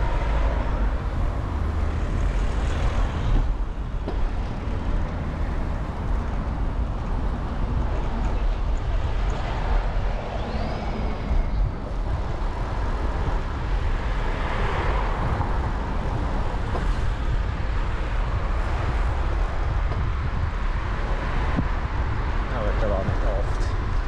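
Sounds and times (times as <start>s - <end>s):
street traffic: 0.0s - 24.0s
wind rumble on microphone: 0.0s - 24.0s.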